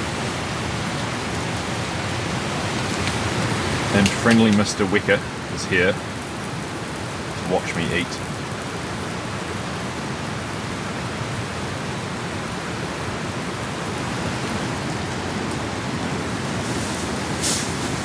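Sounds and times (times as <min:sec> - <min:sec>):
heavy rain on a tent: 0:00.0 - 0:18.0.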